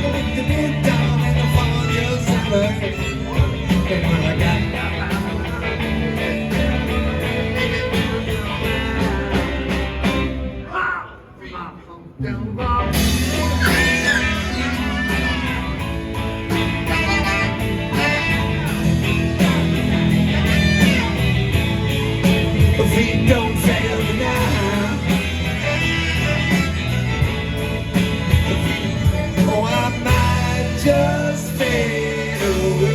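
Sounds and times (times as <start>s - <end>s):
steady drum beat: 0.0s - 10.6s, 12.8s - 32.9s
lead guitar with bending notes: 0.0s - 10.7s, 12.6s - 32.9s
sustained bass notes: 0.0s - 32.9s.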